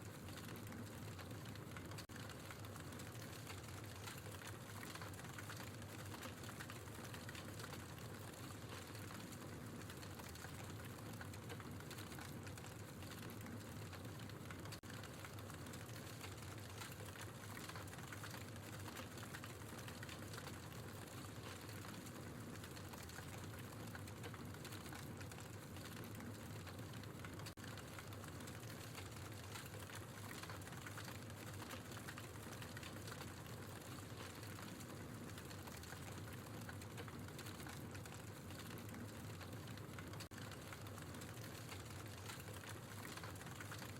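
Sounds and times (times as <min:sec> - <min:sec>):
fireplace fire crackling: 0:00.0 - 0:43.9.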